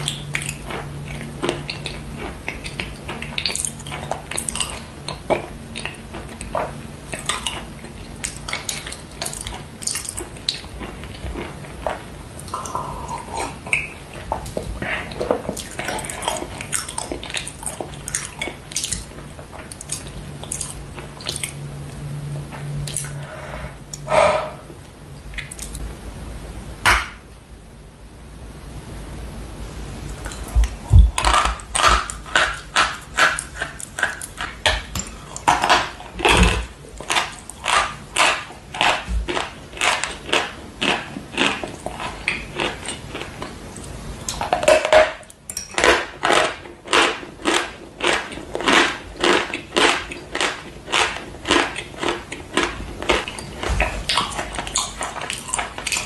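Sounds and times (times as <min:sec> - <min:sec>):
crunchy chewing of hard chalk: 0:00.0 - 0:21.6, 0:30.1 - 0:56.0.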